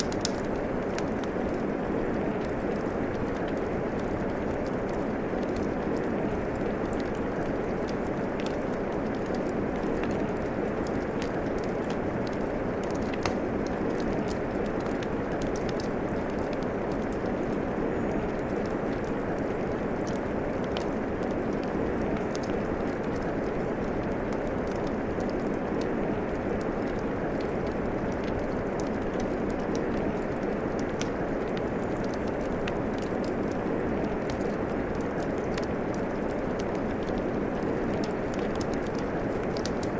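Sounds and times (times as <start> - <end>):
steady rain hiss: 0.0 - 39.9
wood fire crackling: 0.0 - 39.9.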